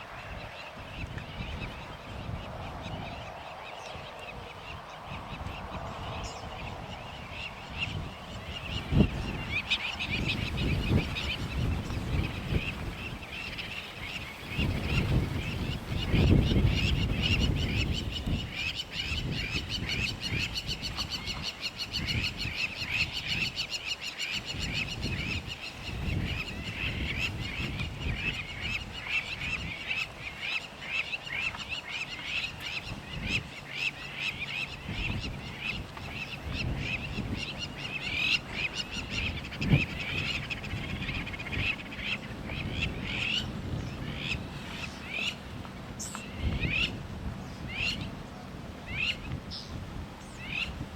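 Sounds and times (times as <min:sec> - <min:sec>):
wind rumbling on microphone: 0:00.0 - 0:50.9
birds chirping rapidly: 0:00.4 - 0:45.4.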